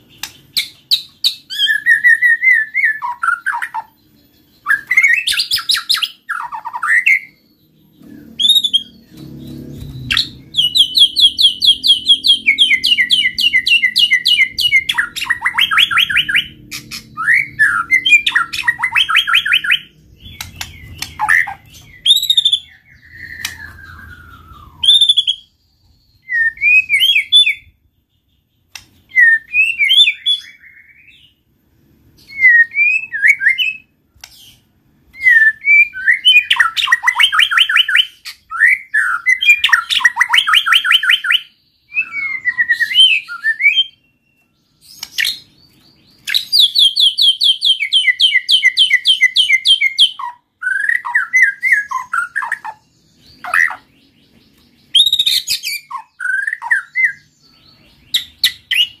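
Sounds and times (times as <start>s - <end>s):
bird singing whistles and trills: 0.0s - 31.5s, 32.1s - 59.0s.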